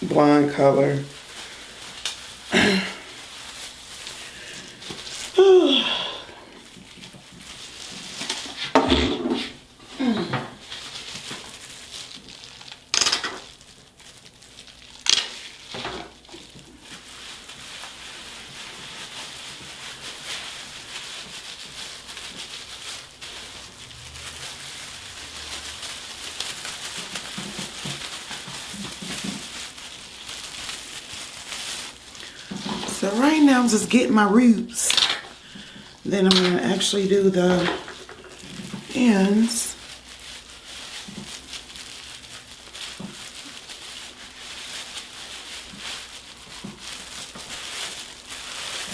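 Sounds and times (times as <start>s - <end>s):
hands rustling and squishing hair: 0.2s - 48.9s.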